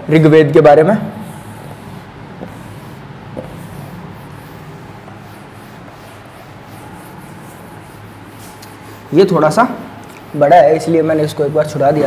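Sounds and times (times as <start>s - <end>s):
low room hum: 0.0s - 12.0s
duster swishing on whiteboard: 0.9s - 12.0s.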